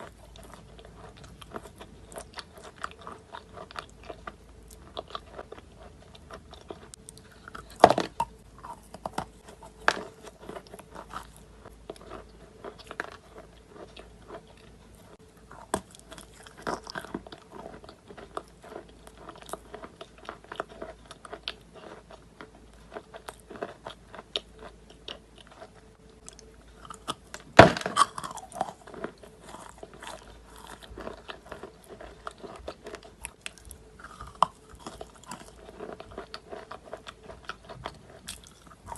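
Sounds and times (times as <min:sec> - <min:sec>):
crunchy chewing of chalk: 0:00.0 - 0:38.9.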